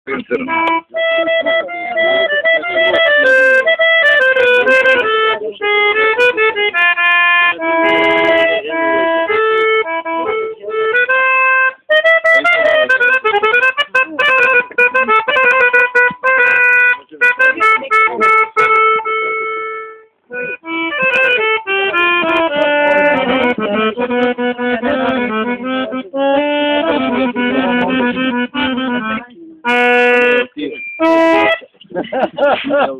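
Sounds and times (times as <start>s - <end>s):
accordion melody: 0.1s - 32.9s.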